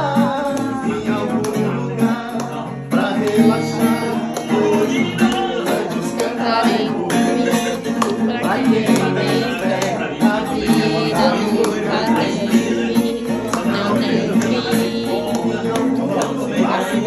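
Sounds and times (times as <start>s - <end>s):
acoustic guitar strumming: 0.0s - 17.0s
hand claps: 0.0s - 17.0s
man and woman singing: 0.0s - 17.0s.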